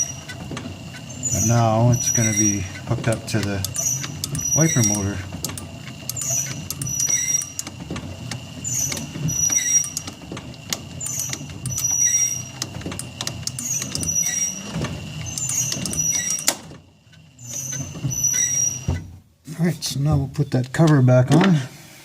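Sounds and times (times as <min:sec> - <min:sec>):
wiper motor whine: 0:00.0 - 0:19.1
wiper mechanism squeaks and clicks: 0:00.0 - 0:19.2.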